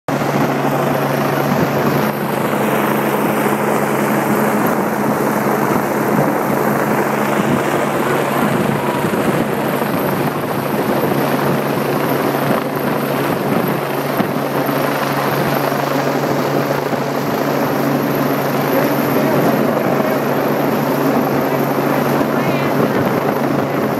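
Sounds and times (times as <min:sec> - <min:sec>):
helicopter hovering: 0:00.1 - 0:23.9.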